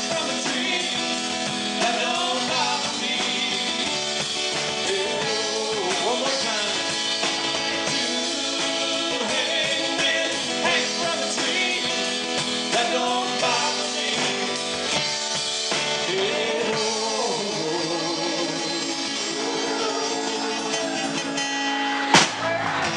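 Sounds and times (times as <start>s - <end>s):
person singing: 0.0s - 4.0s, 4.7s - 7.0s, 7.8s - 14.7s, 16.0s - 21.4s
acoustic guitar: 0.0s - 22.9s
bass guitar: 0.0s - 22.9s
drums: 0.0s - 22.9s
electric guitar: 0.0s - 22.9s.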